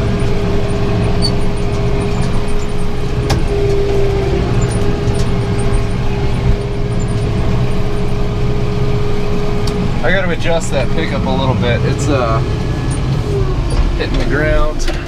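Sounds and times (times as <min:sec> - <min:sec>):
constant hum: 0:00.0 - 0:15.0
tractor engine under load: 0:00.0 - 0:15.0.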